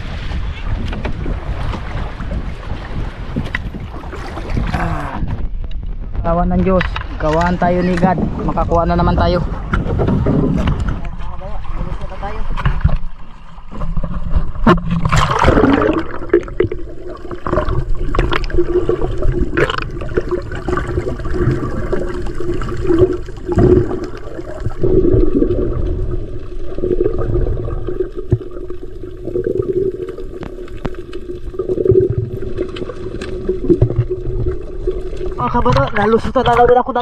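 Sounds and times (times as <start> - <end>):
water splash: 0.0 - 5.3, 6.7 - 37.0.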